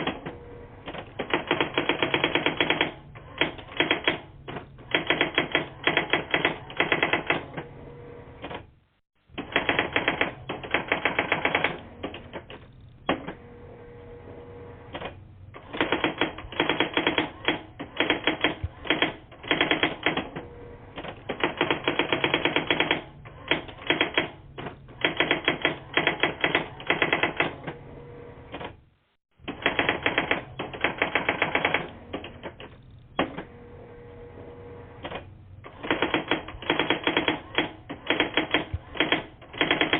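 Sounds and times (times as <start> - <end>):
typewriter clicking over phone line: 0.0 - 7.6, 9.4 - 13.4, 14.9 - 20.4, 21.0 - 27.7, 29.4 - 33.5, 35.0 - 39.9.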